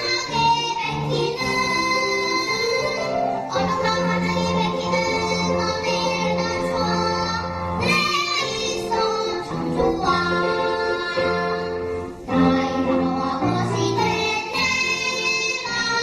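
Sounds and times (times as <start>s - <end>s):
child singing: 0.0s - 16.0s
instrumental accompaniment: 0.0s - 16.0s.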